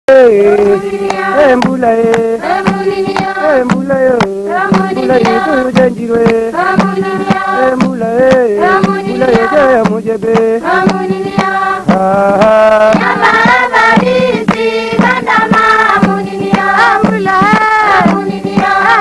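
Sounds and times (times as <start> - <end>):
steady drum strikes: 0.2 - 19.0.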